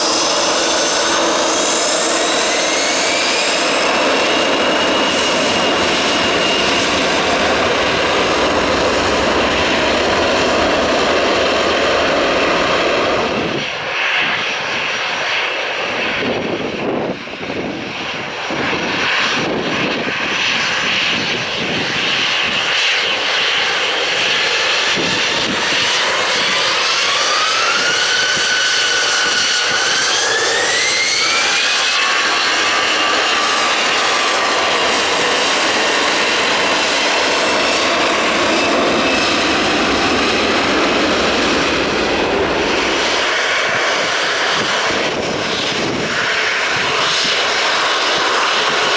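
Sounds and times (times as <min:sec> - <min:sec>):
jet engines whining rising pitch: 0:00.0 - 0:48.9
loud jet engine noise: 0:00.0 - 0:48.9.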